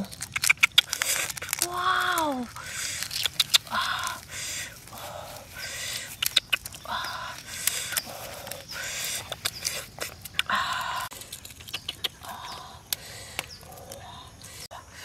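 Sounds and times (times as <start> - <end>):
eggshell crackling: 0.0 - 14.7.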